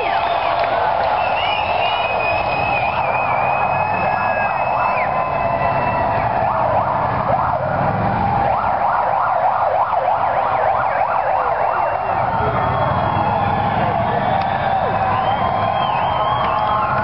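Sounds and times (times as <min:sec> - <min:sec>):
crowd cheering and shouting: 0:00.0 - 0:17.0
siren yelping: 0:00.0 - 0:17.0.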